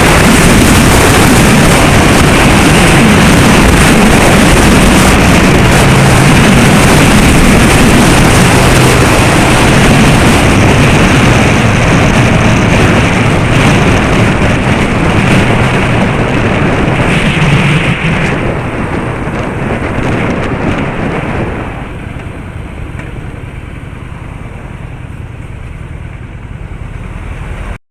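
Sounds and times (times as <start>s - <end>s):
low engine hum: 0.0s - 27.8s
road and wind noise: 0.0s - 27.8s.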